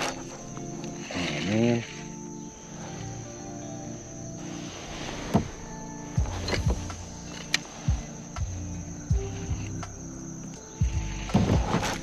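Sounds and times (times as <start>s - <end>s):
background music: 0.0s - 12.0s
insects droning: 0.0s - 12.0s.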